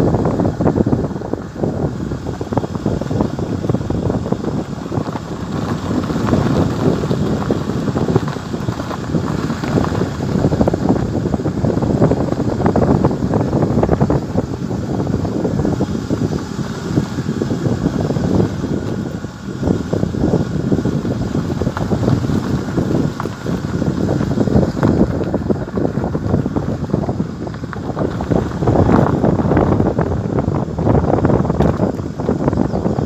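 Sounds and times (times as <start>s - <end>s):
vehicle rumble on dirt road: 0.0s - 33.0s
wind buffeting microphone: 0.0s - 33.0s.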